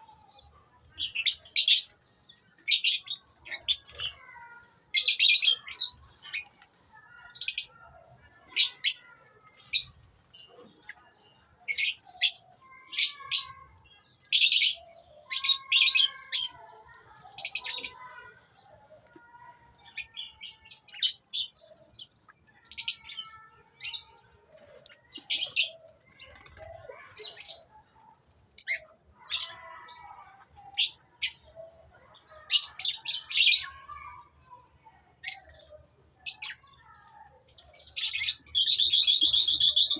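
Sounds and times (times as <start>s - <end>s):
lovebirds chirping: 0.0s - 28.0s, 28.6s - 39.9s.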